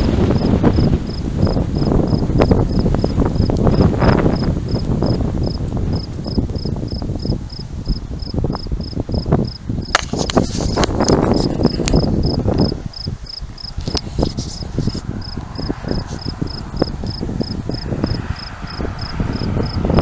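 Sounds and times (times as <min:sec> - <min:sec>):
cricket chirping: 0:00.0 - 0:20.0
wind buffeting microphone: 0:00.0 - 0:20.0.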